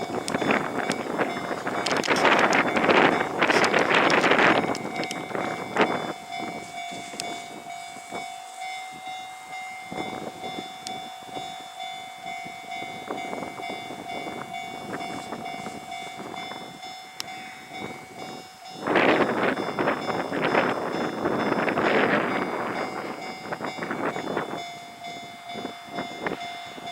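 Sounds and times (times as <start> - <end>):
wind on microphone: 0.0 - 9.1, 9.8 - 11.6, 12.2 - 26.9
level-crossing electronic bell: 0.0 - 26.9.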